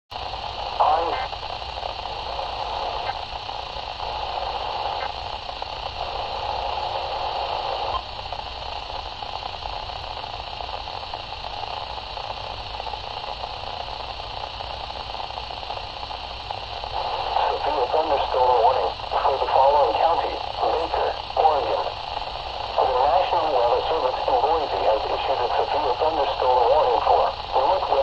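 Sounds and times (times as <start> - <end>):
radio static hiss: 0.1 - 28.0.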